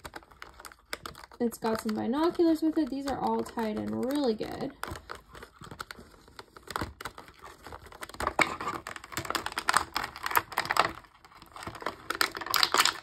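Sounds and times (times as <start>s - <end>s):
plastic packaging clicks and crinkles: 0.0s - 13.0s.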